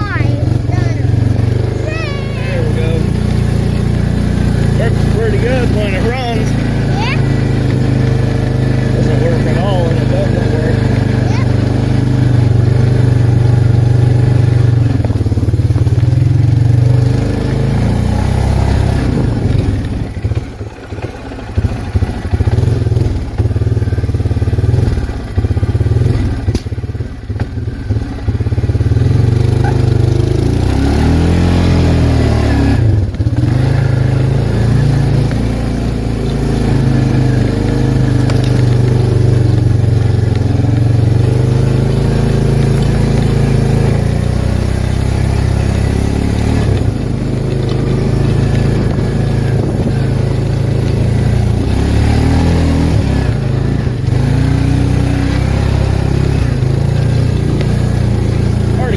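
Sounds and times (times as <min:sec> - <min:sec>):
atv engine running and revving: 0:00.0 - 0:58.9.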